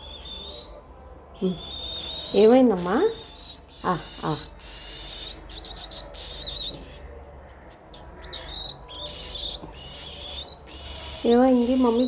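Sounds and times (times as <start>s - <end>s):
baby cockatiel chirping: 0.0s - 12.0s.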